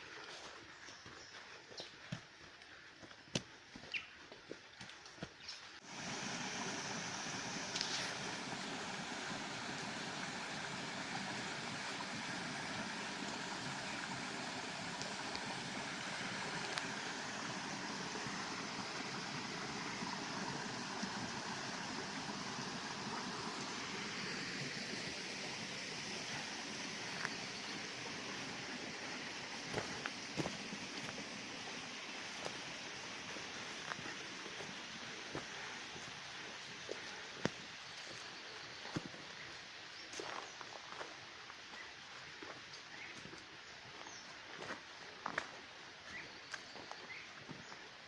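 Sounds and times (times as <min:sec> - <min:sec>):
creek water running: 0:00.0 - 0:48.0.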